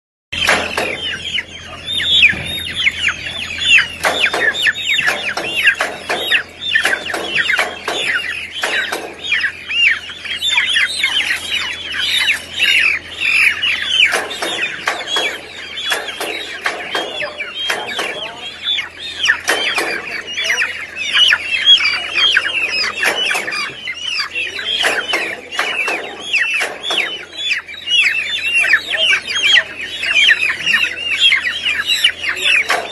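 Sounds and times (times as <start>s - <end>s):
chickens squawking: 0.3s - 32.9s.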